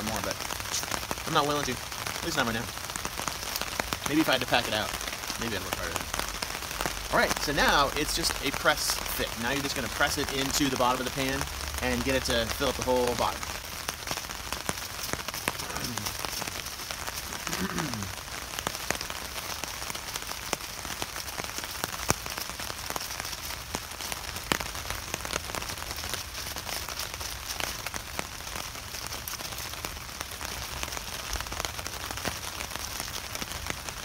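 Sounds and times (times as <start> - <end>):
rain on a tarp: 0.0 - 34.0.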